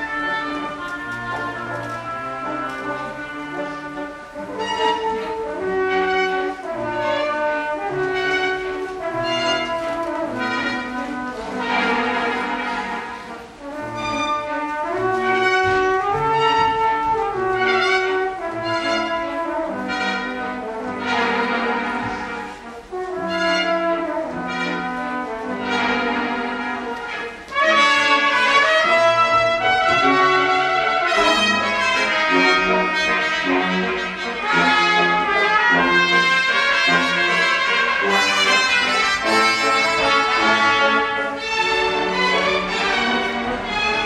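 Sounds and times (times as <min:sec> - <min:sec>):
brass: 0:00.0 - 0:44.0
orchestra playing ballet music: 0:00.0 - 0:44.0.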